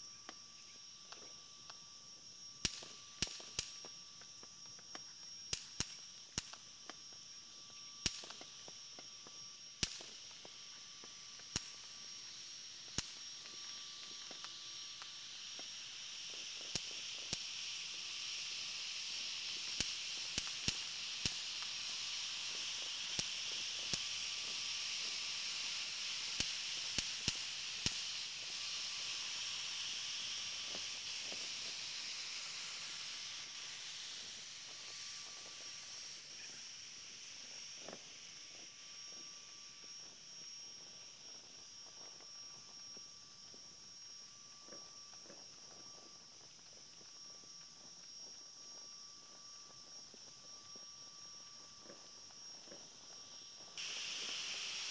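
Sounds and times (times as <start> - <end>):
high-pitched hiss: 0.0 - 54.9
distant fireworks popping: 2.6 - 54.9.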